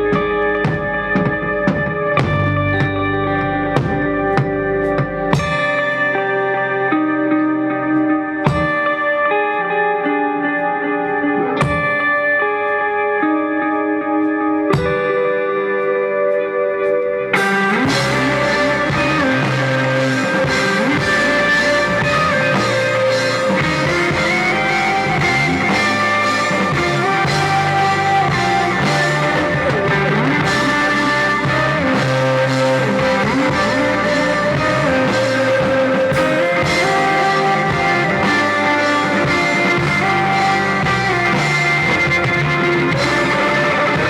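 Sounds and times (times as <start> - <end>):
rock band playing: 0.0 - 44.0.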